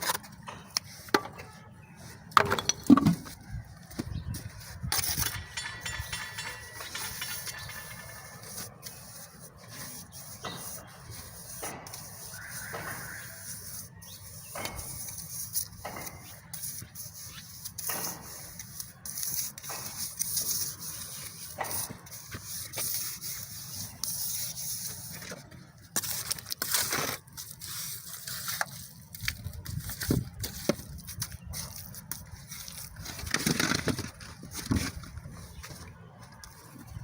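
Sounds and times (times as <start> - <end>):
trowel scraping mortar: 4.0 - 35.7.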